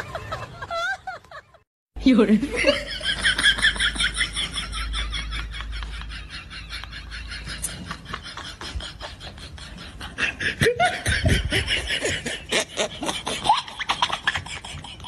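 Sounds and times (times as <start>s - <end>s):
people laughing: 0.0s - 1.6s, 2.3s - 15.0s.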